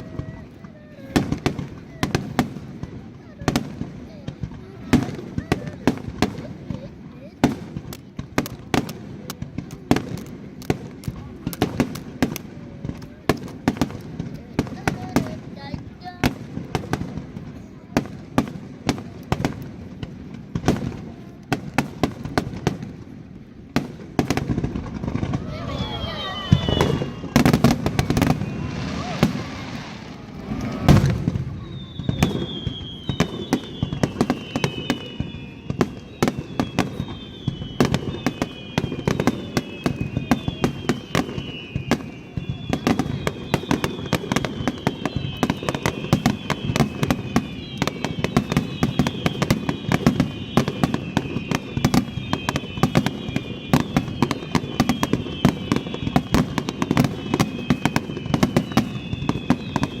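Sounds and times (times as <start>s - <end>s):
fireworks bangs: 0.0s - 60.0s
fireworks whistling: 0.0s - 60.0s.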